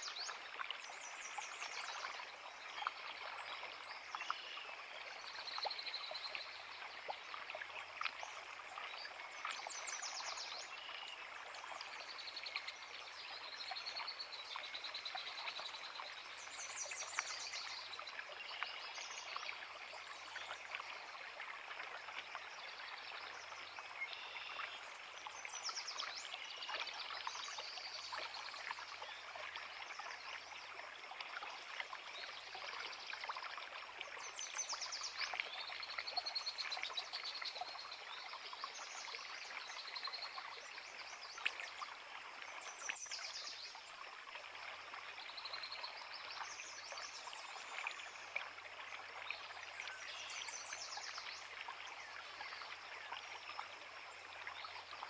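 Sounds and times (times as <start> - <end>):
creek running over rocks: 0.0 - 55.0.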